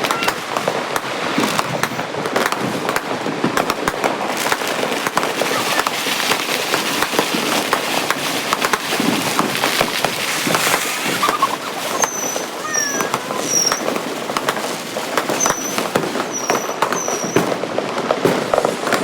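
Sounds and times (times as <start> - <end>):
firecrackers and fireworks banging: 0.0 - 19.0.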